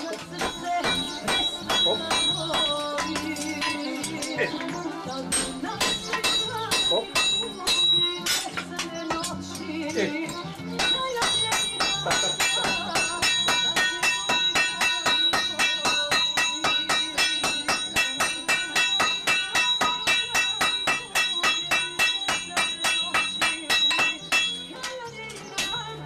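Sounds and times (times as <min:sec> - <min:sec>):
hammer striking iron on anvil: 0:00.1 - 0:04.5, 0:05.3 - 0:10.0, 0:10.8 - 0:25.0, 0:25.6 - 0:26.0.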